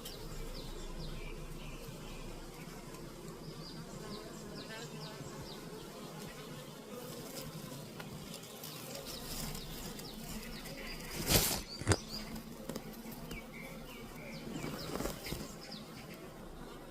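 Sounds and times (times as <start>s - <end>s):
bees buzzing: 0.0s - 16.9s.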